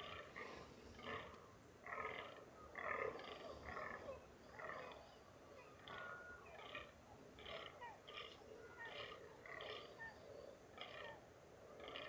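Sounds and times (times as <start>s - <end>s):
deer croaking calls: 0.0s - 12.0s.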